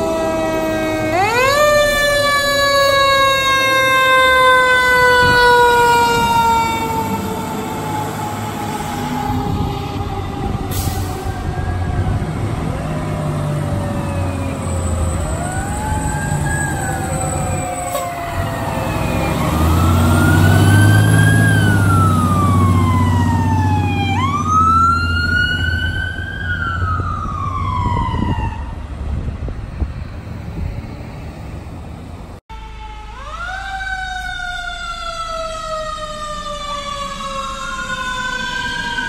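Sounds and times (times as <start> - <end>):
mechanical siren wailing: 0.0 - 28.9, 32.5 - 39.0
truck engine rumbling: 0.0 - 39.0.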